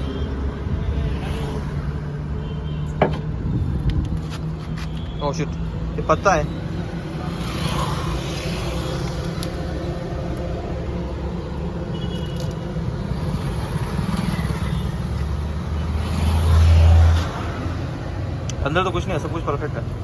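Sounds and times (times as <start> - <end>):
highway traffic rumble: 0.0 - 20.0.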